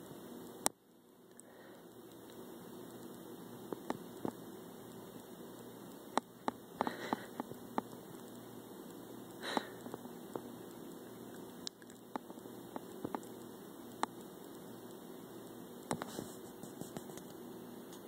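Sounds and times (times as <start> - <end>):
faint clicks and ticks: 0.1 - 18.0.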